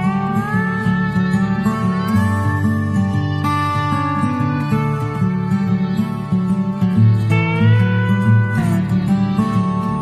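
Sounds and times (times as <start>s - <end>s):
plucked guitar melody: 0.0s - 10.0s.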